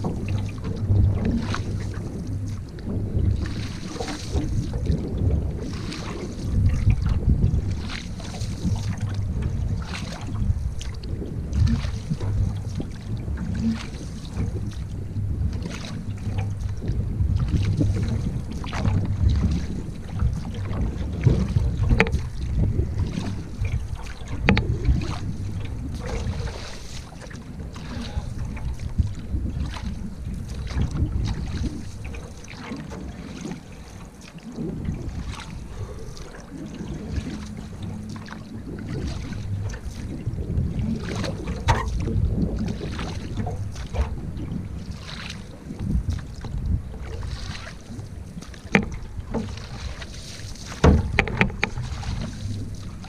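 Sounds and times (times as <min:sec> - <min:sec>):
paddle knocks and splashes: 0:00.0 - 0:53.0
wind buffeting microphone: 0:00.0 - 0:53.0.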